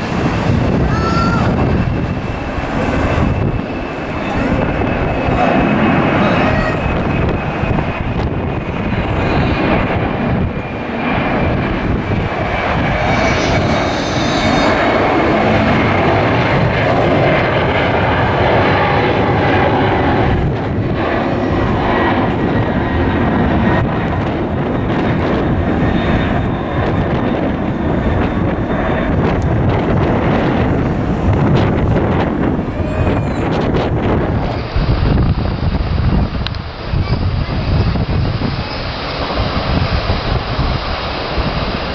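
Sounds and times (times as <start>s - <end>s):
jet engines at climb power: 0.0s - 41.9s.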